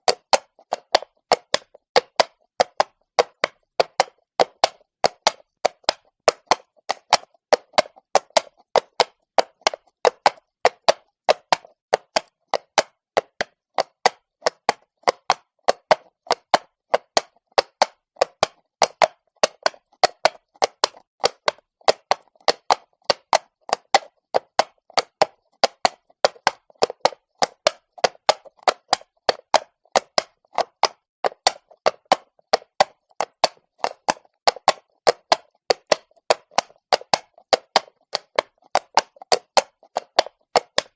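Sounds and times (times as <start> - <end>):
horse hooves clopping on cobbles: 0.0 - 40.9.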